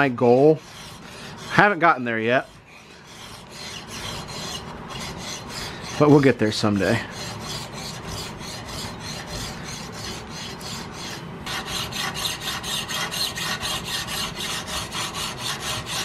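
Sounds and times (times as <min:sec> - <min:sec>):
file rasping on steel: 0:00.0 - 0:16.0.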